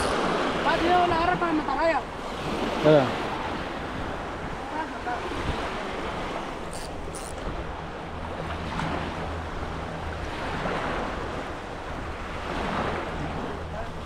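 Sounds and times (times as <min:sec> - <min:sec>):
water washing on shore: 0:00.0 - 0:14.0
wind buffeting microphone: 0:00.0 - 0:14.0.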